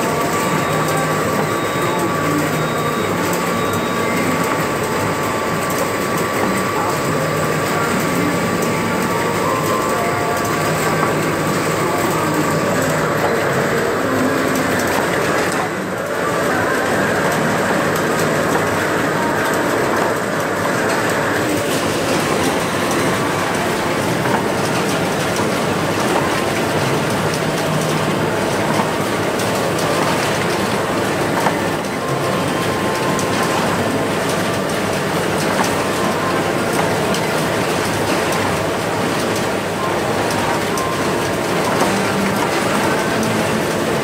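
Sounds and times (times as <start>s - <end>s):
conveyor machinery clattering: 0.0s - 44.0s.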